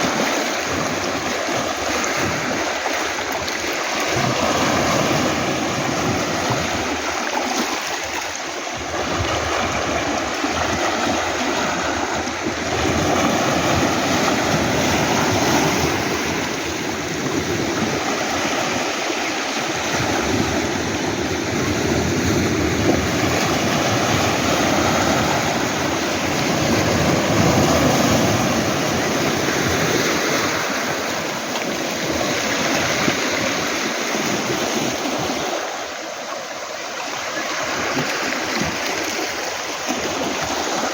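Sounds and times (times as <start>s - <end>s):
waves washing over pebbles: 0.0s - 40.9s.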